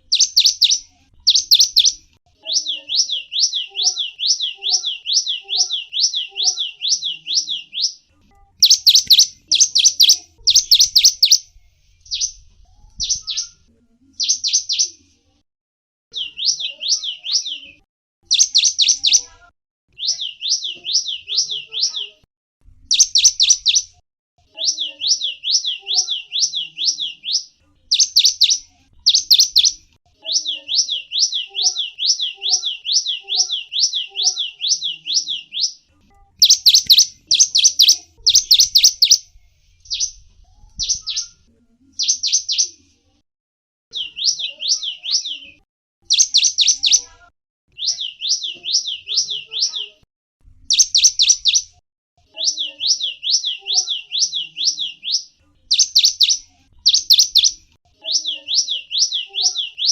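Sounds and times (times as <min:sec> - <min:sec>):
songbird chirping: 0:00.0 - 0:15.2, 0:16.1 - 0:42.9, 0:43.9 - 0:50.1, 0:50.7 - 0:59.9.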